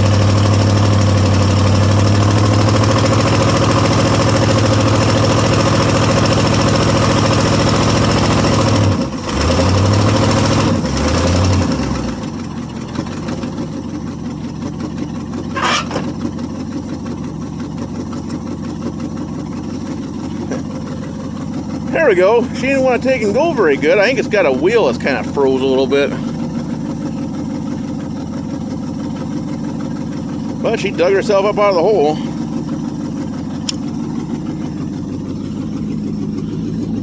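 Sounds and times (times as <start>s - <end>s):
pickup truck engine straining: 0.0s - 37.0s.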